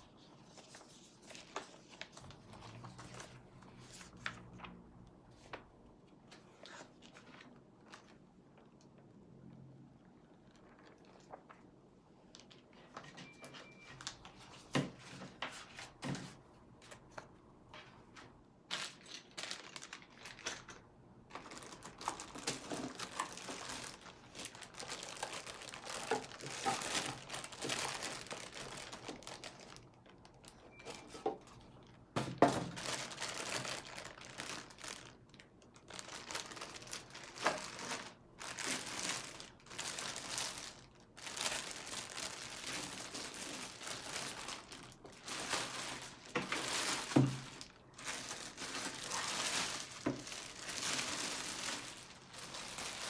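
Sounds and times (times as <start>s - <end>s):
plastic and paper crinkling: 0.0s - 9.1s, 10.2s - 53.0s.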